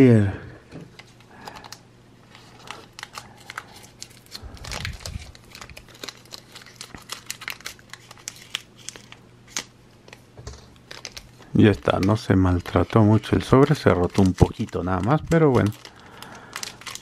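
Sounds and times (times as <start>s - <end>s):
foil pack crinkling: 1.0s - 17.0s.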